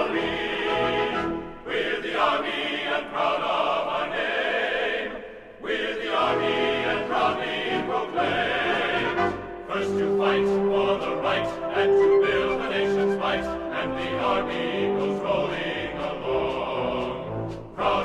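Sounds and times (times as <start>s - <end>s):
background music: 0.0s - 18.0s
choir singing: 0.0s - 18.0s.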